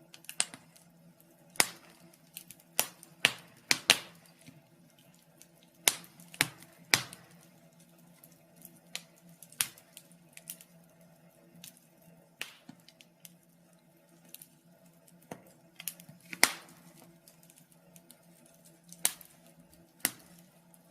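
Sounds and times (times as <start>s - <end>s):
faint steady hum: 0.0s - 20.9s
wood fire crackling: 0.0s - 20.9s.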